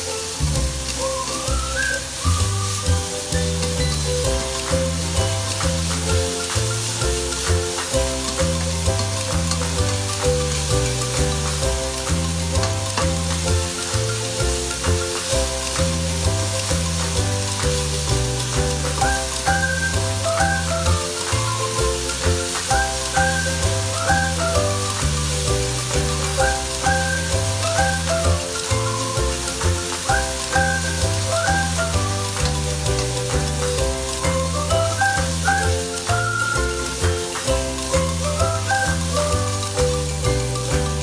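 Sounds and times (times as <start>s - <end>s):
background music with bass beat: 0.0s - 41.0s
food sizzling in a wok: 0.0s - 41.0s.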